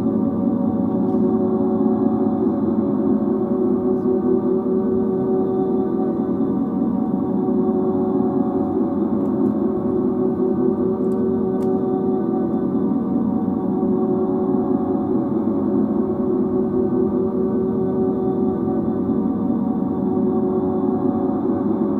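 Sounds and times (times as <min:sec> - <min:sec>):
deep ambient drone: 0:00.0 - 0:21.9.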